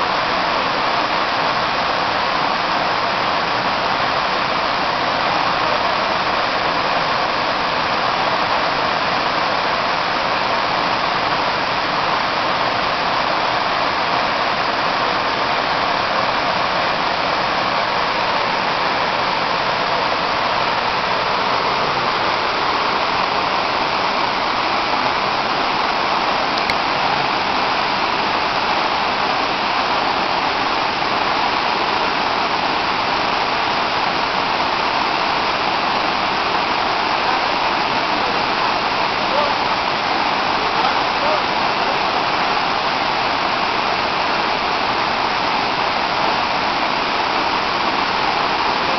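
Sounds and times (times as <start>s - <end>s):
waterfall rushing over rock: 0.0s - 48.9s.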